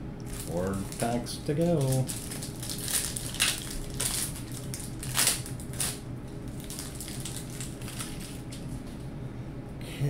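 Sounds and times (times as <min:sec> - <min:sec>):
wrapper crinkling and tearing: 0:00.3 - 0:08.8.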